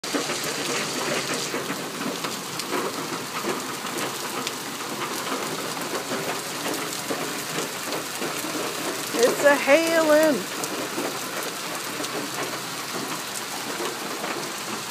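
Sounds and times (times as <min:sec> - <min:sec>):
hail and heavy rain pelting: 0:00.0 - 0:14.9.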